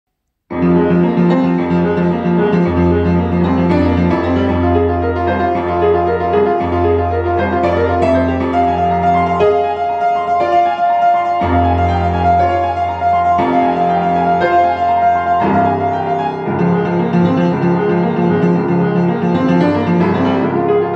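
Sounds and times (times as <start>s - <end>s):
fast upright piano playing: 0.5s - 20.9s.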